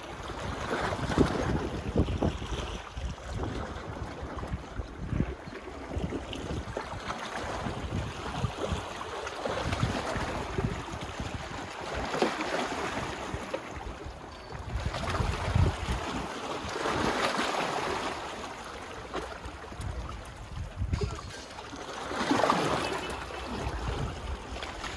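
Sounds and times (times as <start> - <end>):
wind buffeting microphone: 0.0 - 17.2, 19.5 - 21.8, 22.4 - 24.9
small waves washing onto beach: 0.0 - 24.9.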